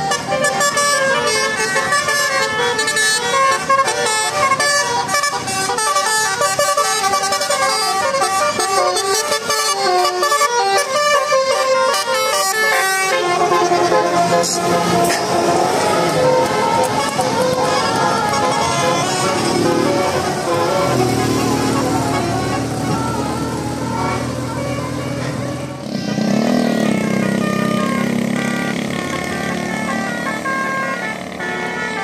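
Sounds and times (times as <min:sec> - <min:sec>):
multi-tone bus horn melody: 0:00.0 - 0:32.0.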